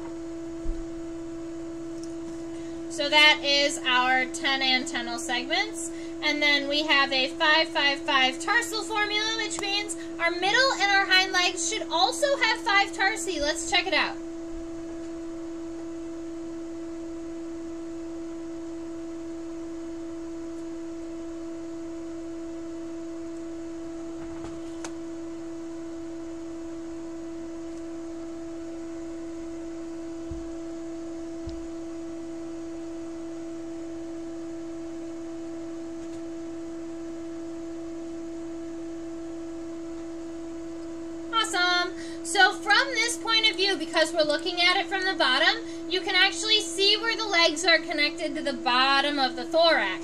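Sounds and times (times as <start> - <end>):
electrical hum: 0.0 - 50.0.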